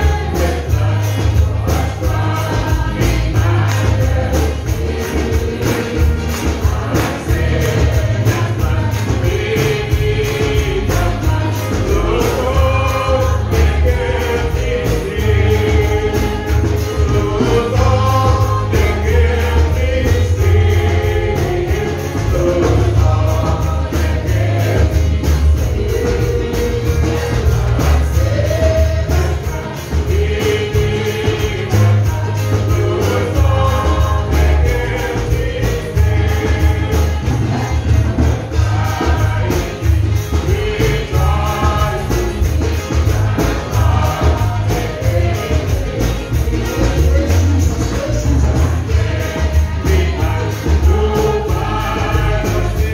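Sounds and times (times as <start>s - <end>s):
accompaniment with heavy bass beat: 0.0s - 52.9s
group singing gospel song: 0.0s - 52.9s.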